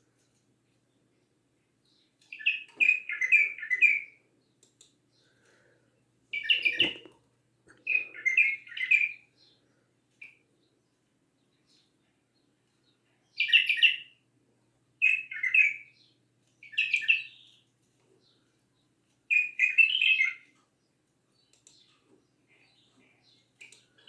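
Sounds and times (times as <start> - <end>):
faint bird chirps: 0.2 - 14.2, 15.0 - 24.0
bird singing warbled phrases: 1.8 - 5.6, 6.3 - 14.2, 15.0 - 18.5, 19.3 - 24.0.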